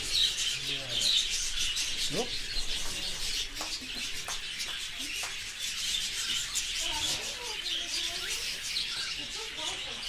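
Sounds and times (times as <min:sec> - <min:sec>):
flock of parakeets chirping: 0:00.0 - 0:10.0.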